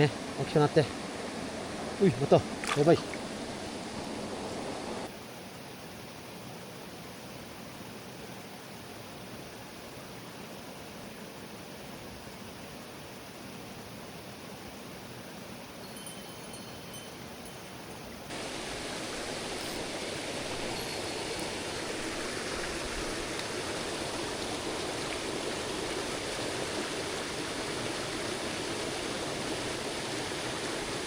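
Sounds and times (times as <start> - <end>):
mountain stream rushing: 0.0 - 5.9, 6.6 - 31.0.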